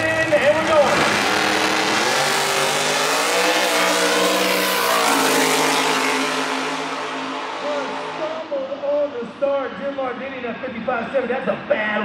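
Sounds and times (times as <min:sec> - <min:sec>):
drag racing cars accelerating: 0:00.0 - 0:10.2.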